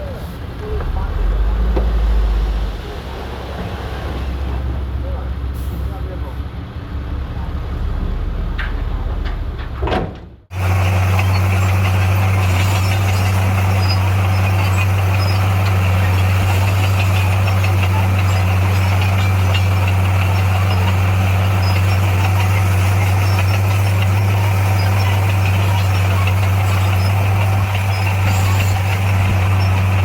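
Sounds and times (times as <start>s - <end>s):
bulldozer diesel engine humming: 0.0s - 30.0s.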